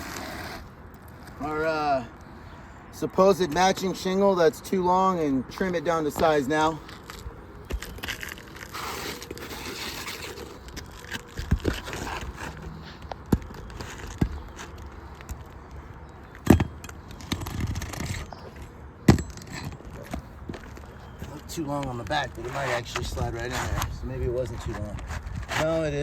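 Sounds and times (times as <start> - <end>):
roofing shingles scraping: 0.0 - 1.7, 5.5 - 26.0.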